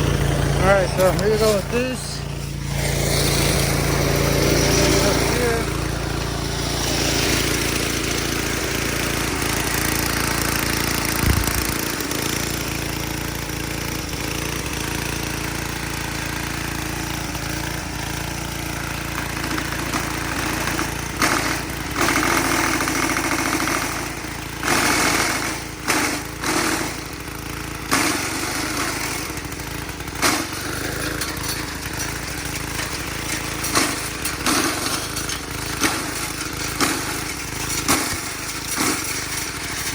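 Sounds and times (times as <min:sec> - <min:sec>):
branches crunching in chipper: 0:00.0 - 0:39.9
wood chipper engine running: 0:00.0 - 0:39.9.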